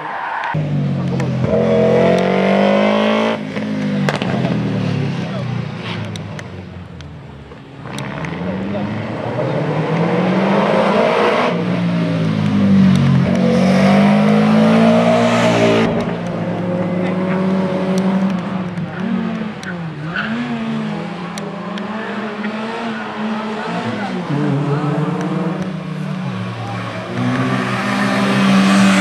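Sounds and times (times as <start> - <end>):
race car engine revving: 0.5 - 6.5, 7.8 - 29.0.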